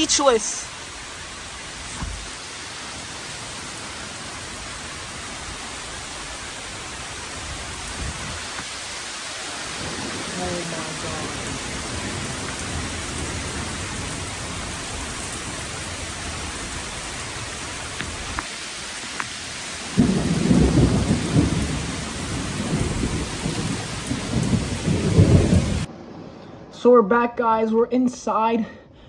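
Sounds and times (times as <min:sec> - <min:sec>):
heavy rain pouring: 0:00.0 - 0:27.2
thunder rumbling: 0:00.0 - 0:27.7.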